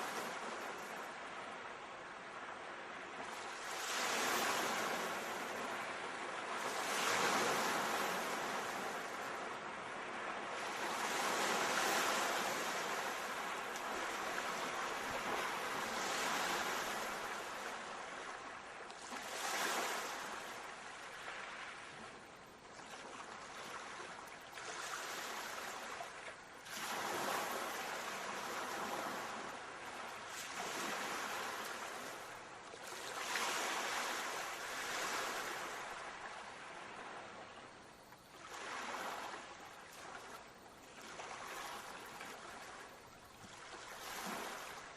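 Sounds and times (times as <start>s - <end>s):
sea waves breaking on shore: 0.0s - 44.9s.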